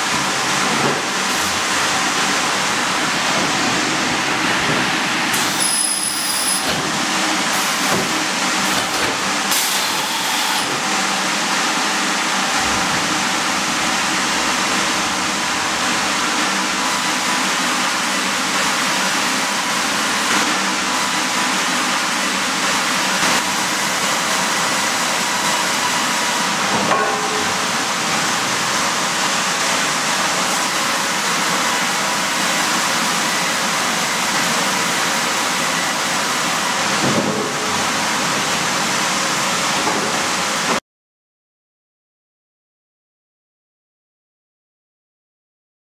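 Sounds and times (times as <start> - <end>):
sawmill machinery running: 0.0 - 40.8.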